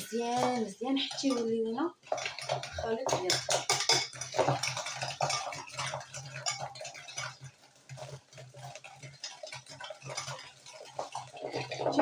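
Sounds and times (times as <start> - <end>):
utensil beating eggs in a bowl: 0.0 - 12.0.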